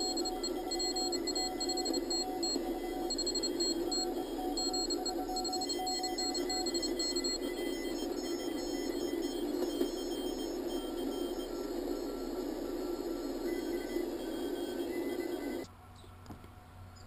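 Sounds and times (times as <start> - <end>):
morse code beeps: 0.0 - 15.7.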